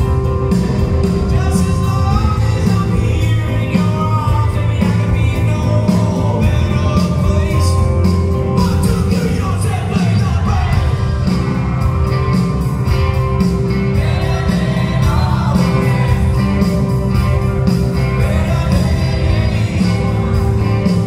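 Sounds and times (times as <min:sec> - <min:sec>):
drum kit beat: 0:00.0 - 0:21.0
electric guitar: 0:00.0 - 0:21.0
keyboard: 0:00.0 - 0:21.0
man singing: 0:00.8 - 0:11.4, 0:13.8 - 0:21.0.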